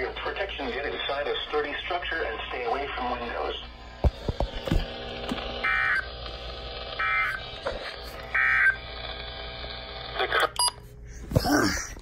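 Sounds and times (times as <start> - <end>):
radio receiver hum and hiss: 0.0 - 10.6.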